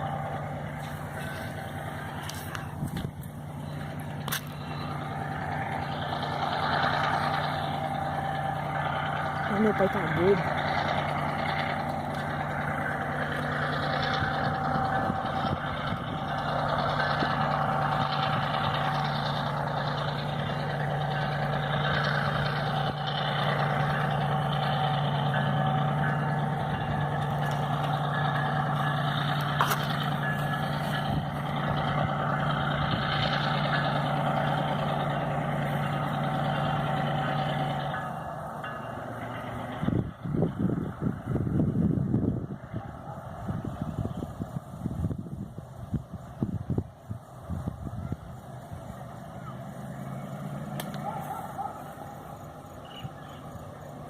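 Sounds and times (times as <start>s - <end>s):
locomotive engine droning: 0.0s - 54.0s.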